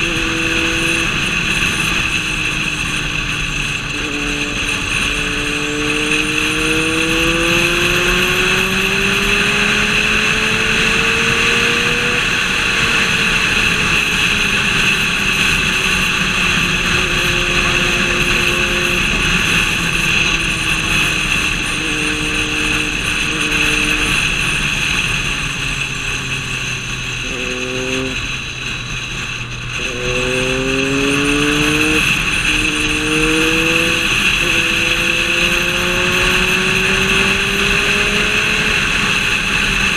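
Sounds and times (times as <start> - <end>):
car engine accelerating hard: 0.0 - 39.9
steady rushing noise: 0.0 - 39.9.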